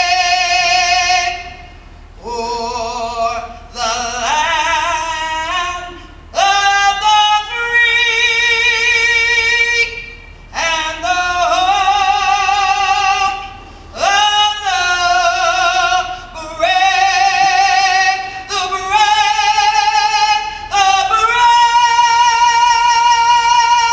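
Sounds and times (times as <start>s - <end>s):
woman singing with vibrato: 0.0s - 23.9s.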